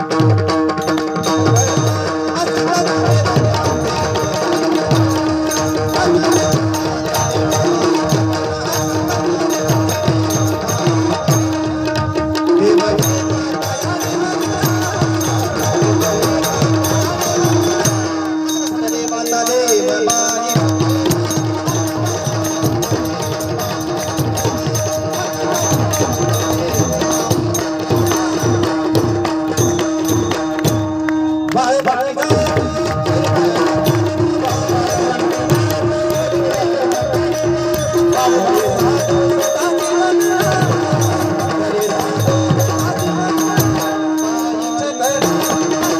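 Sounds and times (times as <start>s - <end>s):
tabla rhythm: 0.0s - 45.9s.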